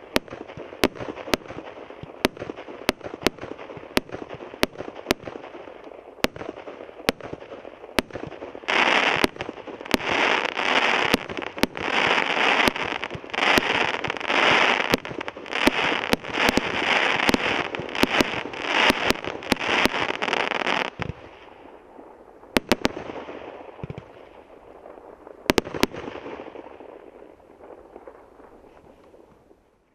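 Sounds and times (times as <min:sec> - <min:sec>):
firework bangs: 0:00.0 - 0:29.0
firework crackling bursts: 0:00.0 - 0:29.3.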